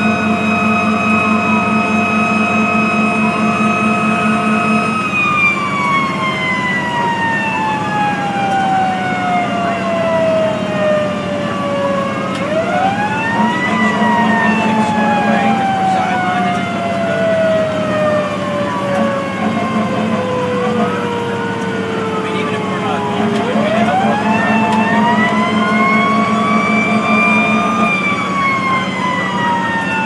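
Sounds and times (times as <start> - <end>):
steady high siren: 0.0 - 30.0
wailing siren: 0.0 - 30.0.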